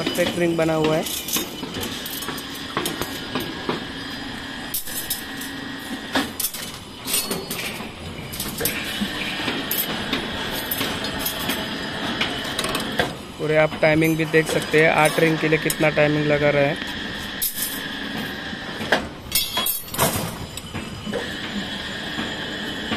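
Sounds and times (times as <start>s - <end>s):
bending machine whining: 0.0s - 22.9s.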